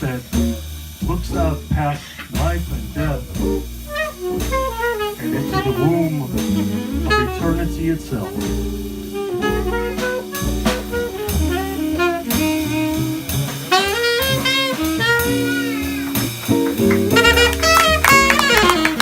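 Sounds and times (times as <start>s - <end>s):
drums: 0.0s - 19.0s
walking bass: 0.0s - 19.0s
saxophone melody: 3.0s - 19.0s.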